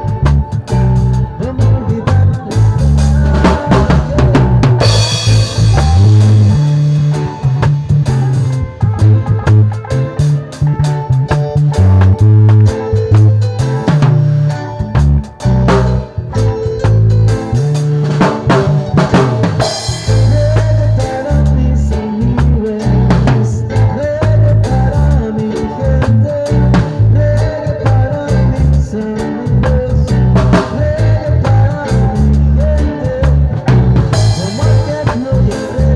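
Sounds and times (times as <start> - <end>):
loud music with drums and bass: 0.0 - 35.9.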